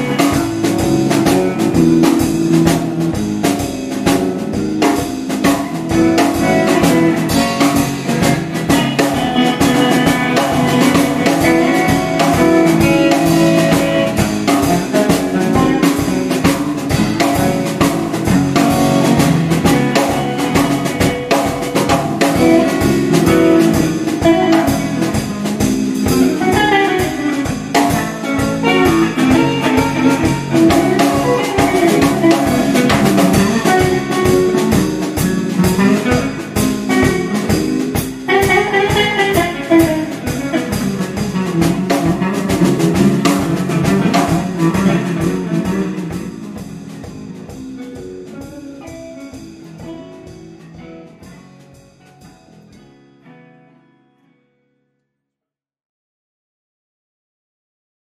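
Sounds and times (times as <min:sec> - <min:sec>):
drum kit beat: 0:00.0 - 0:52.9
guitar: 0:00.0 - 0:55.1.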